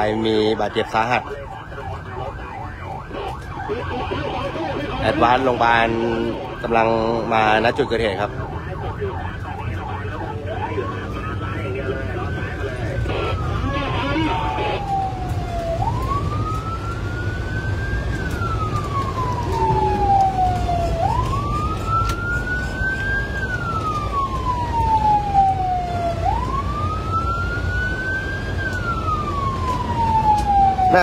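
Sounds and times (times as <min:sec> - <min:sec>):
electronic siren wailing: 0:00.0 - 0:31.0
low rumble of moving van: 0:00.0 - 0:31.0.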